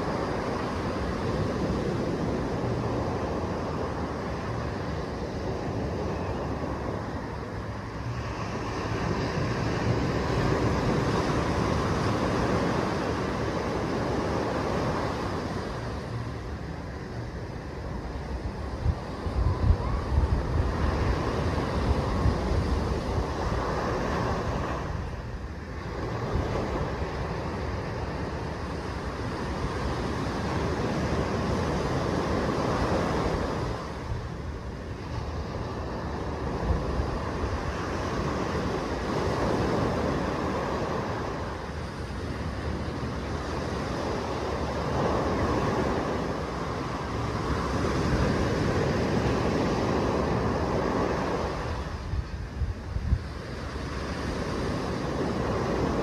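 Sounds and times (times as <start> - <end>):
small waves breaking on sand: 0.0 - 56.0.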